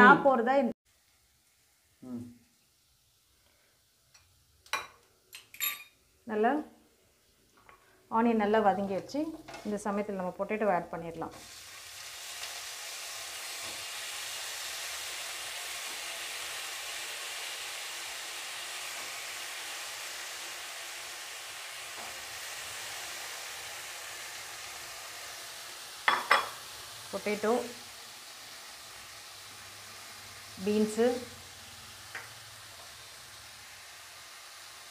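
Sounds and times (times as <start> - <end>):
vegetables sizzling in hot oil: 0.2 - 34.9.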